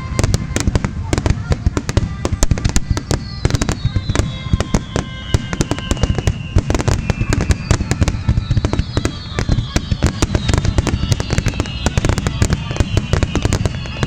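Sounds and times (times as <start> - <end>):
falling firework whistles: 0.0 - 14.0
fireworks banging and crackling: 0.0 - 14.0.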